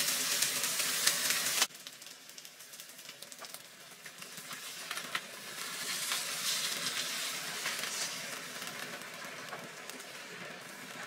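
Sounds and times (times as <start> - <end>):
oil sizzling in frying pan: 0.0 - 11.0.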